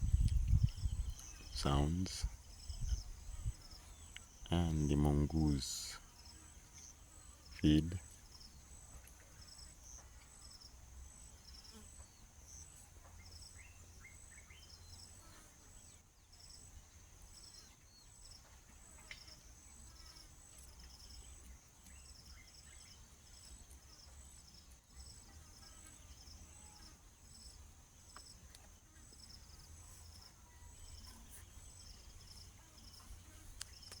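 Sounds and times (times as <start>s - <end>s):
faint bird chirps: 0.0s - 34.0s
insects chirping: 0.0s - 34.0s.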